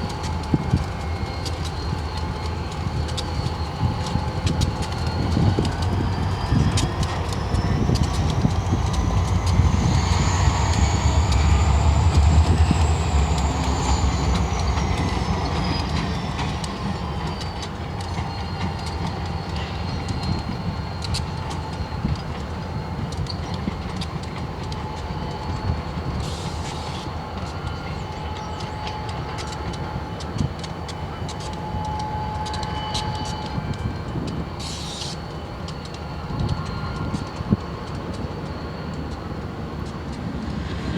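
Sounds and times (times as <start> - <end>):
diesel locomotive engine rumble: 0.0 - 40.9
high wheel squeal: 0.0 - 40.9
wheels clicking over rail joints: 0.0 - 40.9.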